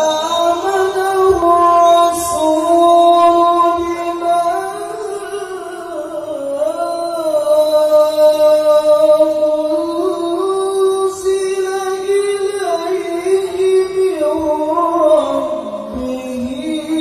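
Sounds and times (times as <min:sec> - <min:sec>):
man reciting in high voice: 0:00.0 - 0:17.0.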